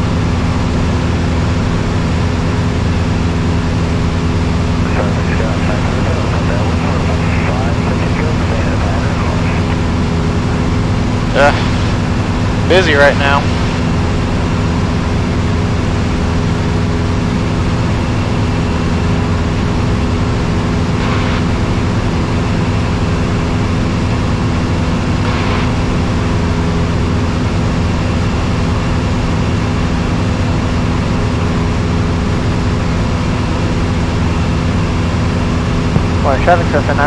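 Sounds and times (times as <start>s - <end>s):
light airplane engine droning: 0.0s - 37.0s.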